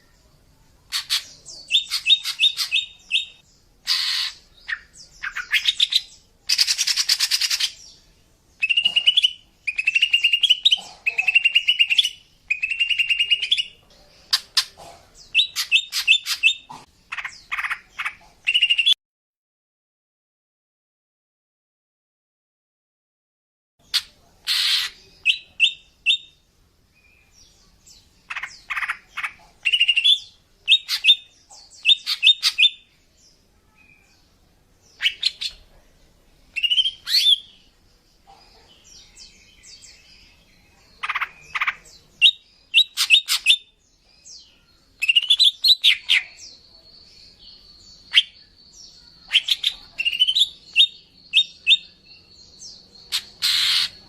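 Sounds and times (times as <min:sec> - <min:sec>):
bird chirping and trilling: 0:00.9 - 0:19.0, 0:23.8 - 0:26.4, 0:27.0 - 0:35.7, 0:36.5 - 0:54.0.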